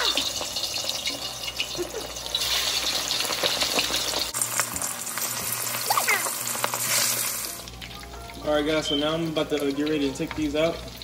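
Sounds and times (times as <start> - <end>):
chicken wings sizzling in oil: 0.0 - 11.0.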